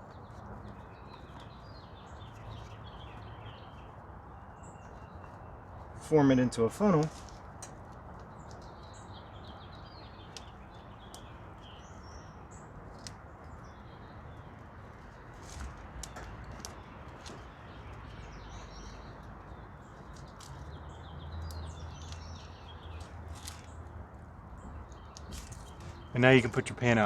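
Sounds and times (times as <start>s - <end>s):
small birds chirping: 0.0s - 27.0s
steady outdoor hiss: 0.0s - 27.0s.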